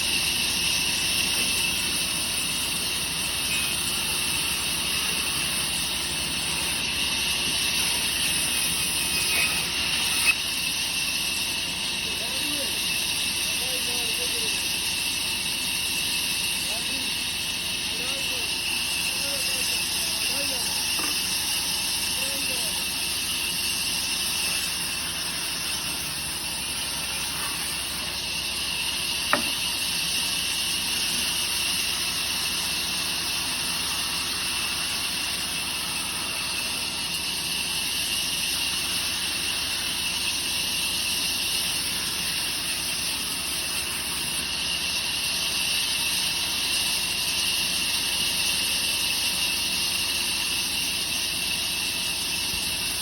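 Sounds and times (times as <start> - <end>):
woodworking machine hissing: 0.0 - 53.0.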